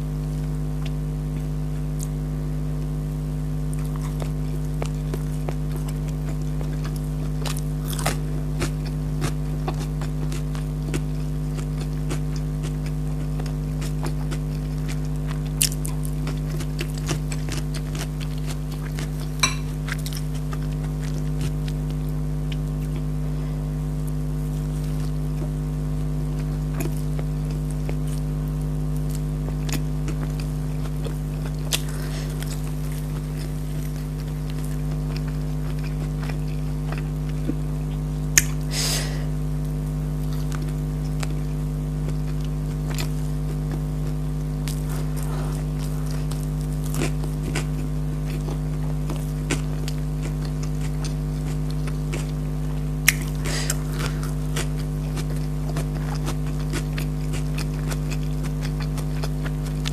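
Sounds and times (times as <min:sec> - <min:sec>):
steady low hum: 0:00.0 - 0:59.9
person chewing and crunching: 0:03.6 - 0:59.9.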